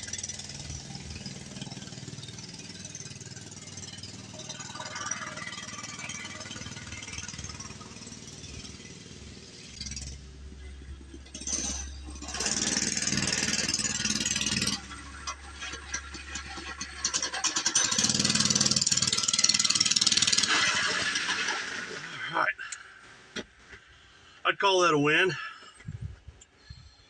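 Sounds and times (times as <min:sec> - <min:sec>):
small engine running: 0:00.0 - 0:22.3.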